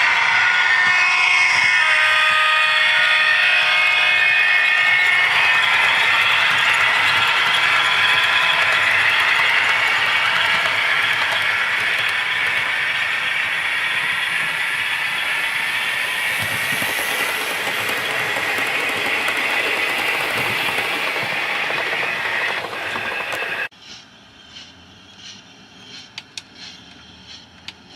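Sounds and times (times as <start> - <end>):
model train running on track: 0.0 - 27.0.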